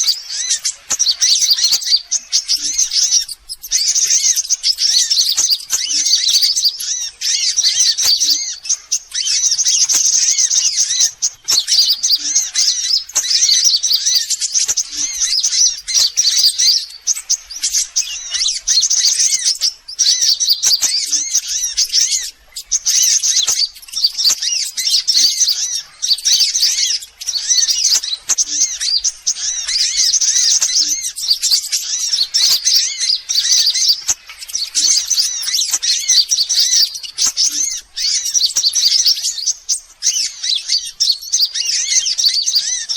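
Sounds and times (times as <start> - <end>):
sunbirds chirping and trilling: 0.0 - 42.9.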